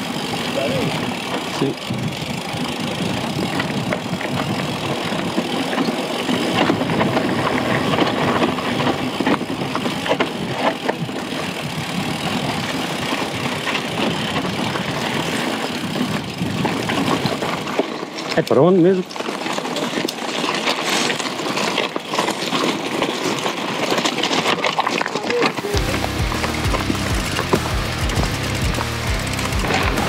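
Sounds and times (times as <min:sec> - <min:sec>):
bike rattling clicks: 0:00.0 - 0:30.0
bike tyres rumbling on dirt: 0:00.0 - 0:30.0.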